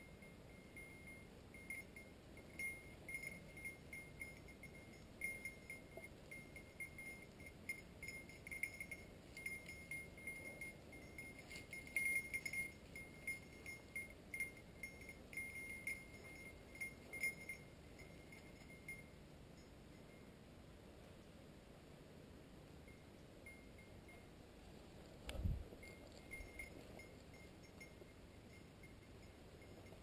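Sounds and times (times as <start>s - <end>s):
dog collar bell jingling: 0.0s - 20.3s, 25.7s - 30.0s.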